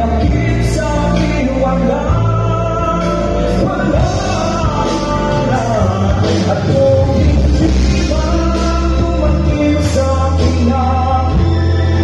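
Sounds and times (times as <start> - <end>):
backing music over speakers: 0.0 - 12.0
man singing into microphone: 0.0 - 12.0.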